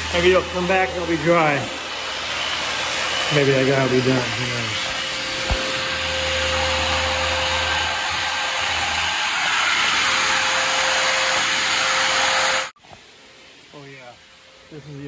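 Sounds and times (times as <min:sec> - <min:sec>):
power tool whining: 0:00.0 - 0:12.8.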